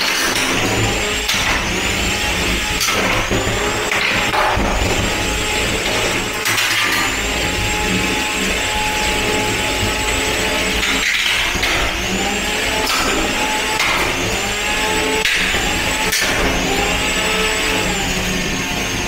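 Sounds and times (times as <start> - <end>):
weapon motor whining: 0.0 - 19.0.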